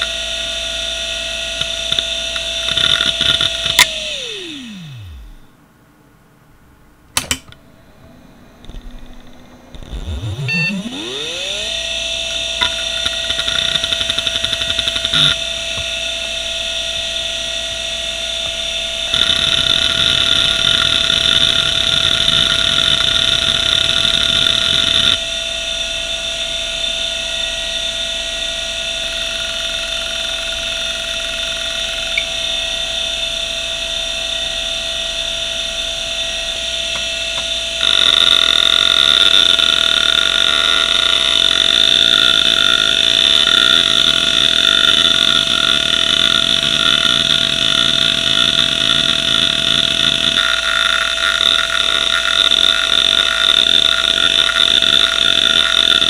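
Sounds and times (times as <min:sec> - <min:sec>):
hard drive spinning whine: 0:00.0 - 0:05.7, 0:06.6 - 0:56.0.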